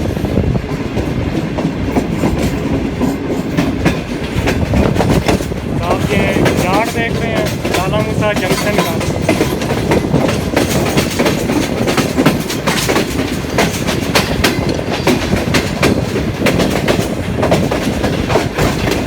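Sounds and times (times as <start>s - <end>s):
train wheels rumbling over rail joints: 0.0s - 19.0s.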